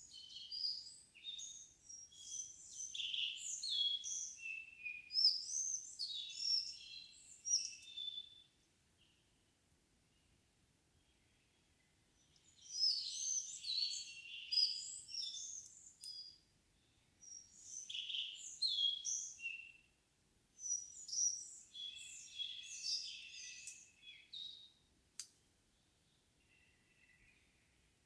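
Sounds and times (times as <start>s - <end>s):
songbird singing: 0.0s - 9.5s, 10.1s - 20.0s, 20.6s - 28.0s.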